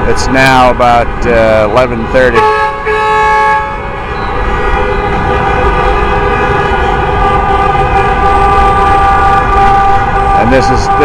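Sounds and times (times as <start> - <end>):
traffic rumble: 0.0 - 11.0
car horns honking: 0.4 - 11.0.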